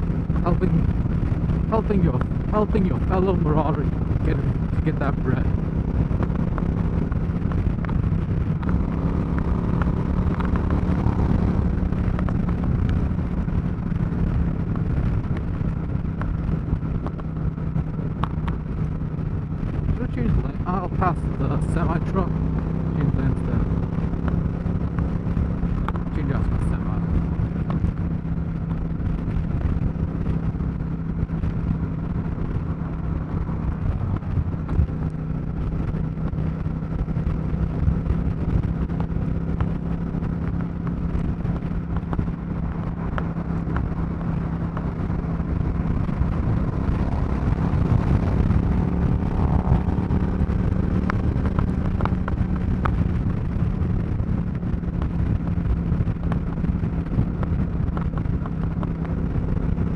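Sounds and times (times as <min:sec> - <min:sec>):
motorcycle engine and exhaust: 0:00.0 - 0:59.9
wind and road noise: 0:00.0 - 0:59.9.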